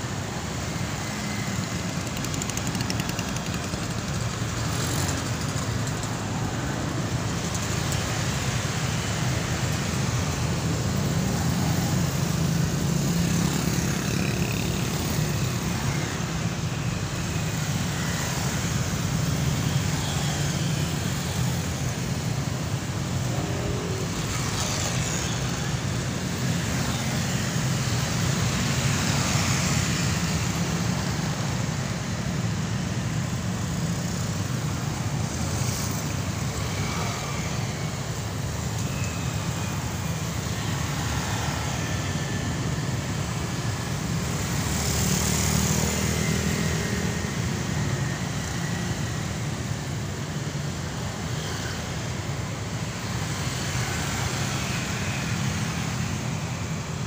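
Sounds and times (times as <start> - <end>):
road traffic: 0.0 - 57.0
vehicles passing by: 0.0 - 57.0.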